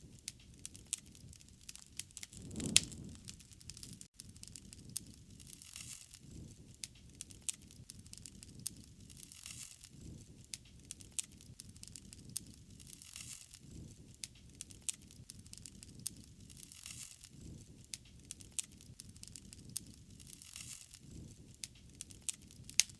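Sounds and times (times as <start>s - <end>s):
wood fire crackling: 0.1s - 22.9s.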